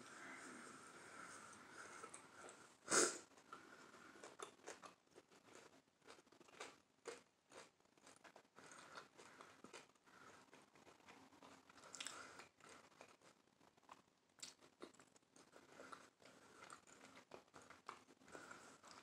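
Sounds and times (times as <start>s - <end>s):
chewing with soft crunching: 0.0s - 19.0s.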